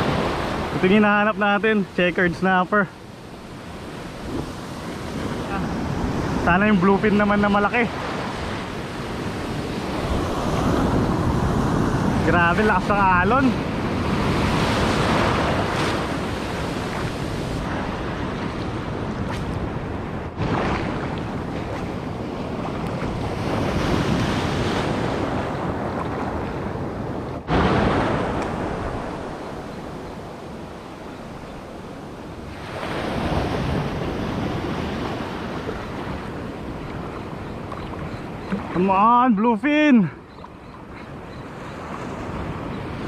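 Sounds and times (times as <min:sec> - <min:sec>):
sea waves washing up shore: 0:00.0 - 0:43.0.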